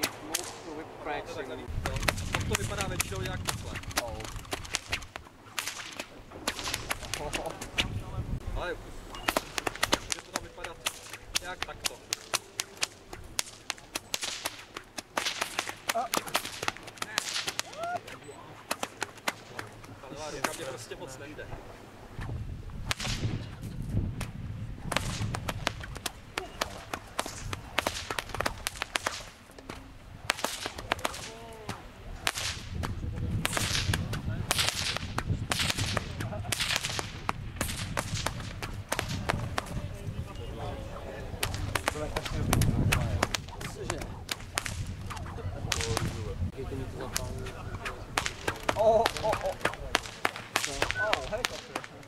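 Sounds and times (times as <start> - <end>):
bullwhips cracking: 0.0 - 0.7, 1.8 - 8.0, 9.1 - 20.7, 22.2 - 39.8, 41.3 - 46.3, 47.0 - 52.0.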